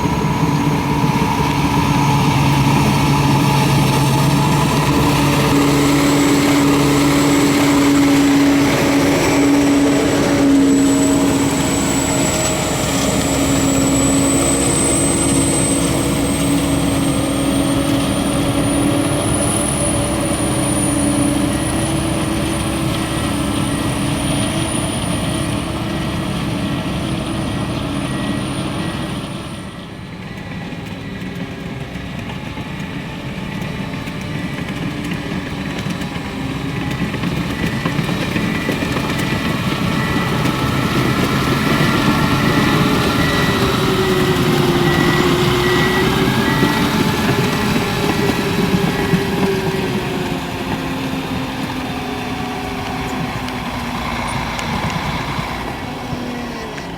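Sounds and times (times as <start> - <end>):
high turbo whistle: 0.0 - 30.0, 38.1 - 56.0
diesel engine working under load: 0.0 - 56.9
hydraulic pumps whining: 0.0 - 56.9.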